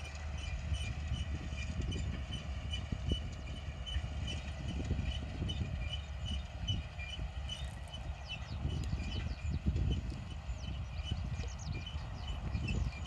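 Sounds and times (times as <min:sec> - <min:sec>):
tractor engine rumble: 0:00.0 - 0:13.0.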